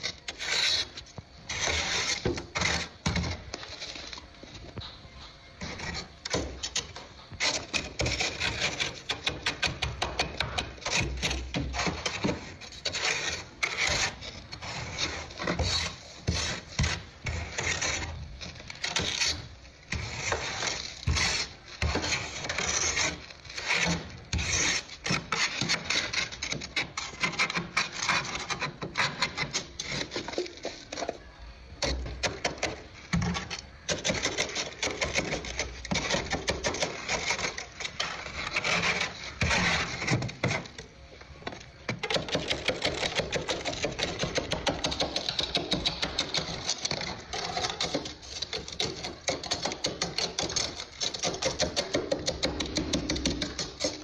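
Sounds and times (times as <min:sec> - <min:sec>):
plastic scraper scraping frost: 0:00.0 - 0:04.9, 0:05.5 - 0:54.0.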